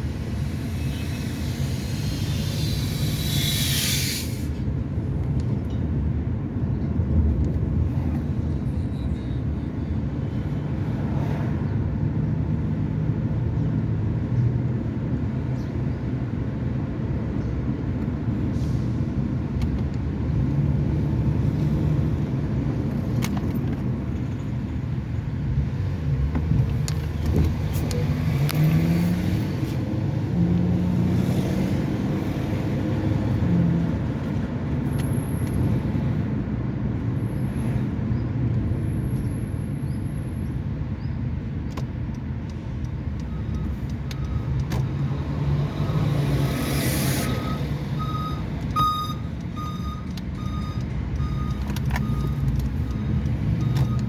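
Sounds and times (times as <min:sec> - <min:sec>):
cars passing on road: 0:00.0 - 0:54.0.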